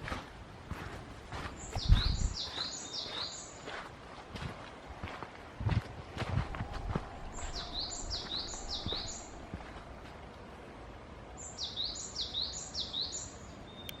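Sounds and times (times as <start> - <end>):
songbird singing: 0.8 - 5.2, 6.0 - 14.0.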